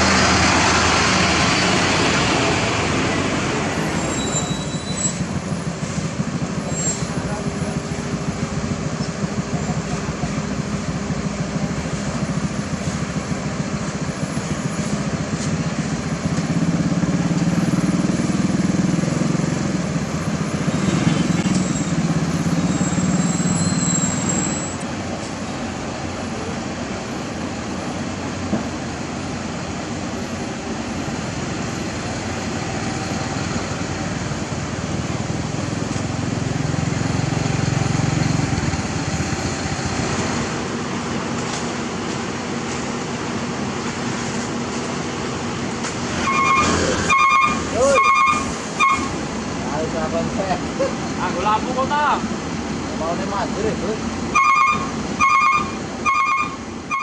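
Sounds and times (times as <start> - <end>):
heavy vehicle engines rumbling: 0.0 - 57.0.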